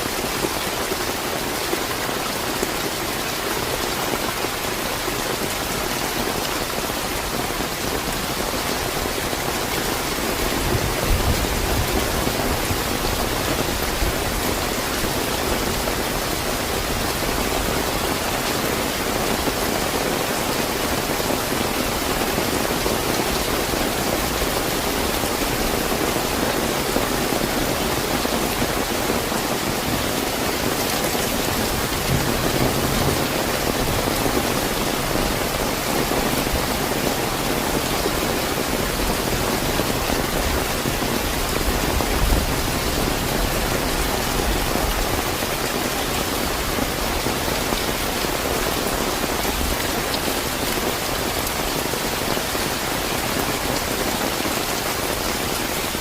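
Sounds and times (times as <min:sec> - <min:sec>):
heavy rain on surfaces: 0:00.0 - 0:56.0.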